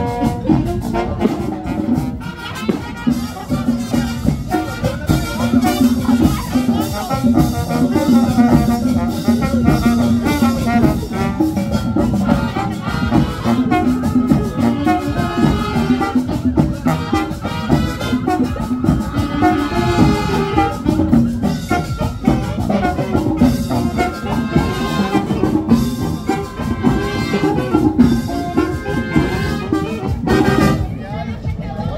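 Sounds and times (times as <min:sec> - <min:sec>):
steady drumbeat: 0:00.0 - 0:31.6
trumpets and trombones: 0:00.0 - 0:31.6
marching band playing: 0:00.0 - 0:31.7.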